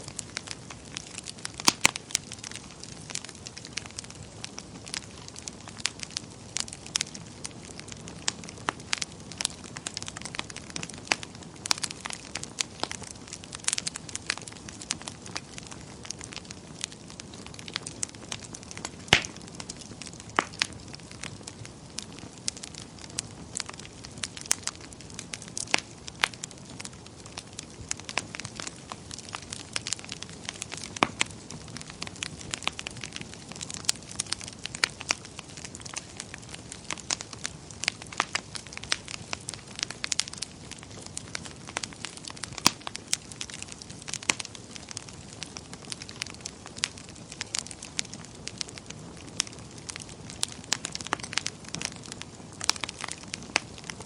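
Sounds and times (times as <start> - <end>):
low rush of flame: 0.0 - 54.0
wood fire crackling and popping: 0.0 - 54.0.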